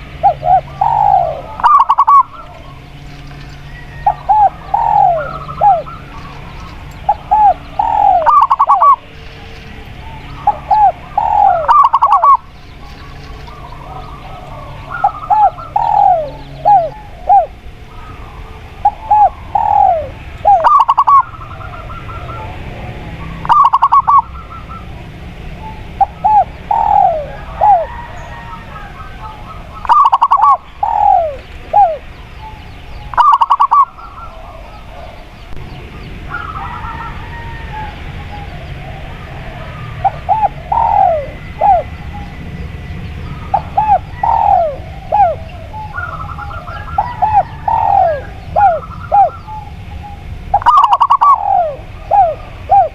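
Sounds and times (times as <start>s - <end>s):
doves cooing: 0.0s - 52.9s
steady low hum: 0.0s - 52.9s.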